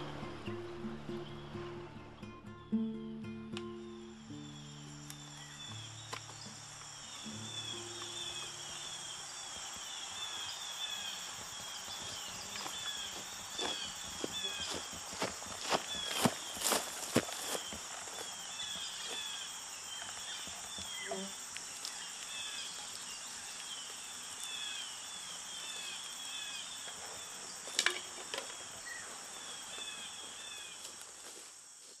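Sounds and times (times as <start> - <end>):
high insect drone: 3.7 - 32.0.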